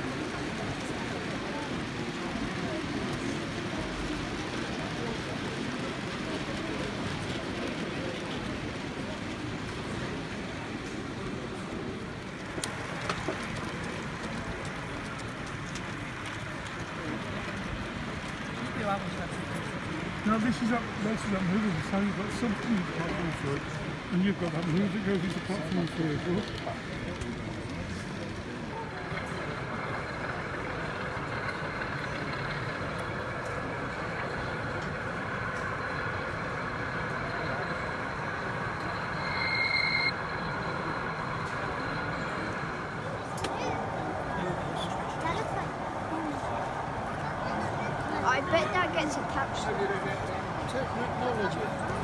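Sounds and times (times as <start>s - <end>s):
model train humming and rumbling: 0.0s - 52.0s.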